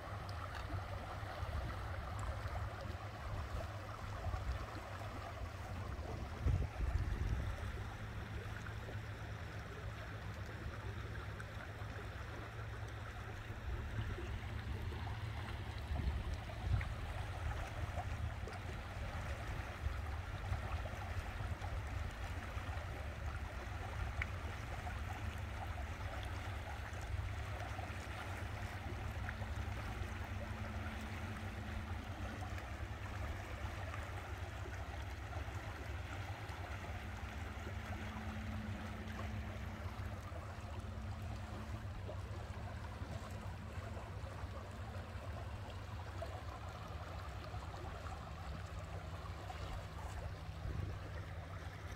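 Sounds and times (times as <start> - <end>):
faint hum: 0.0 - 51.9
water rushing and gurgling: 0.0 - 51.9.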